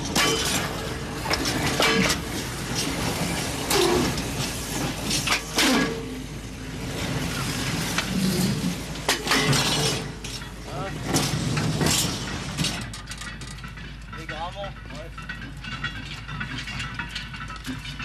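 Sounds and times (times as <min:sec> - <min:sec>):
freight wagons clanking: 0:00.0 - 0:18.0.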